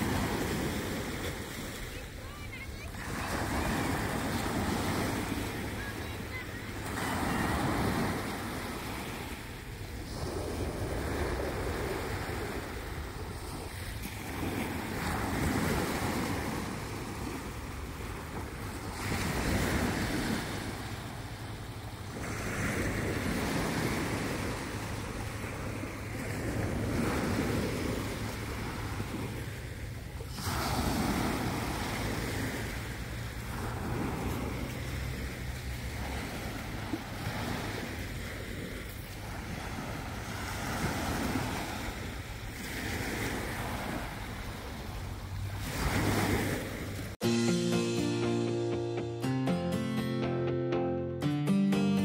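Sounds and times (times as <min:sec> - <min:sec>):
small waves breaking on beach: 0:00.0 - 0:47.4.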